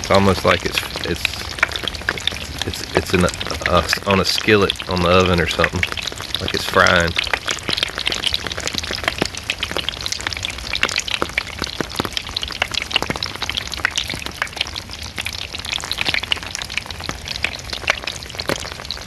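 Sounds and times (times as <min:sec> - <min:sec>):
foam surfboards crackling and popping: 0:00.0 - 0:19.0
rain pattering: 0:00.0 - 0:19.0.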